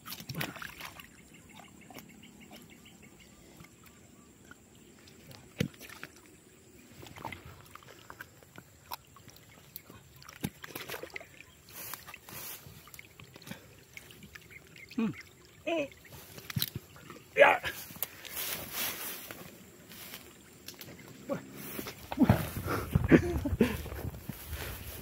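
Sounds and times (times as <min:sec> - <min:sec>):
mud and water squelching: 0:00.0 - 0:25.0.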